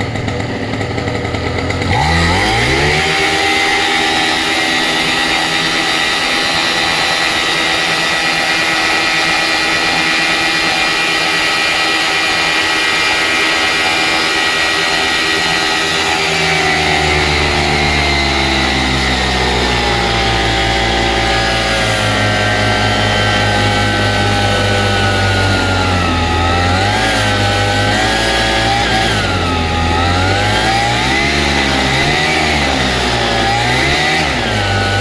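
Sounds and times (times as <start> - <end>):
deeper engine rumble: 0.0 - 35.0
paramotor engine high revs: 0.0 - 35.0.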